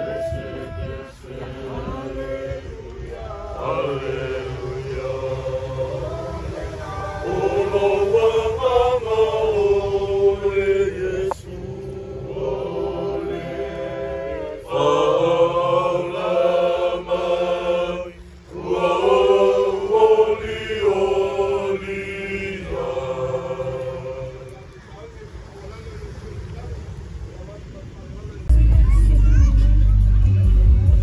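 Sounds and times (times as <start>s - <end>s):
group singing a slow hymn: 0.0s - 24.9s.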